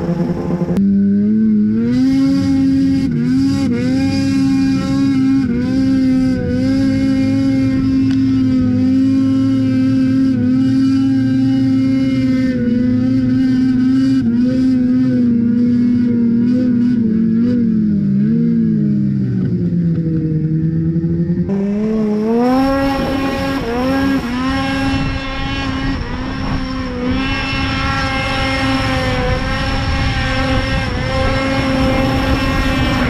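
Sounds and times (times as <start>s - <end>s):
snowmobile engine at high revs: 0.0s - 33.0s.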